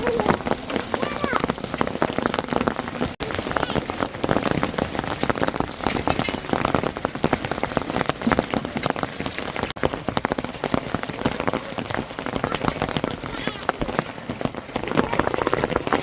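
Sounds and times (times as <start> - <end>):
hail and rain pelting down: 0.0 - 16.0.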